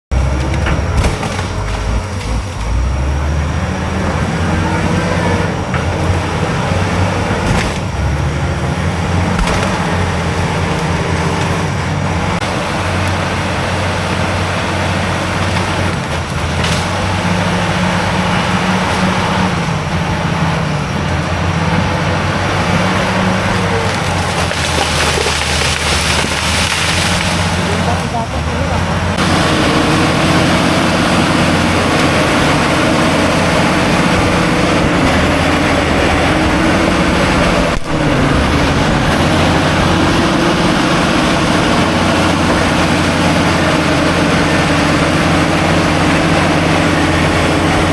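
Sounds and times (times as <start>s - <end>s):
diesel engine under load: 0.0s - 47.9s.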